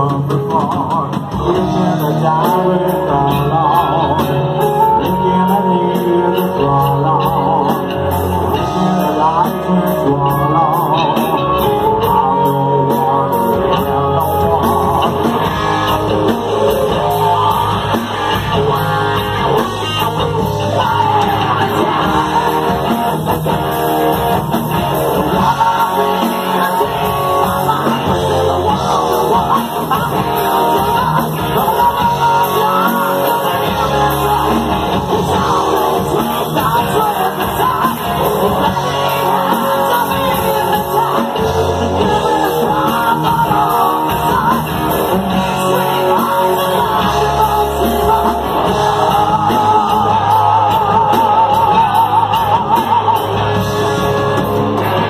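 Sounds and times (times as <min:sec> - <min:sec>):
bass guitar: 0:00.0 - 0:55.0
drum kit with cymbals: 0:00.0 - 0:55.0
electric guitars: 0:00.0 - 0:55.0
man singing: 0:00.0 - 0:55.0.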